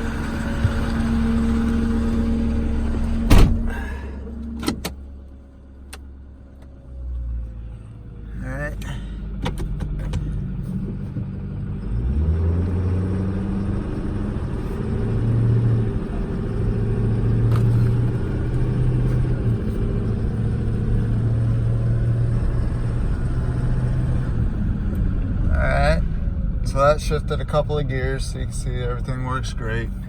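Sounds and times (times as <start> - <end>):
diesel truck engine accelerating: 0.0 - 30.0.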